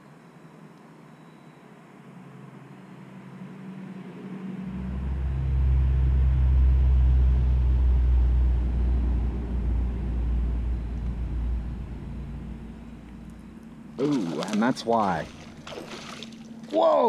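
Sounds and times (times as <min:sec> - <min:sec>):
low engine rumble passing by: 0:01.6 - 0:17.0.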